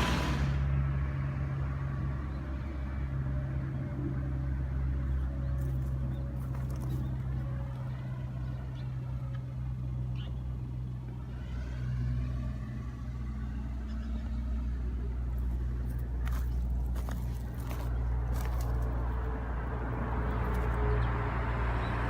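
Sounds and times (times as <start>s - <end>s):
vehicle passing by: 0.0s - 10.0s, 10.6s - 22.0s
expressway traffic rumble: 0.0s - 22.0s.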